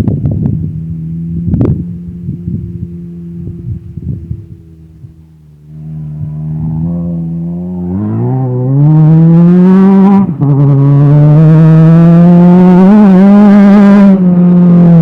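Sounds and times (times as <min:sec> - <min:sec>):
off-highway vehicle engine running: 0:00.0 - 0:15.0.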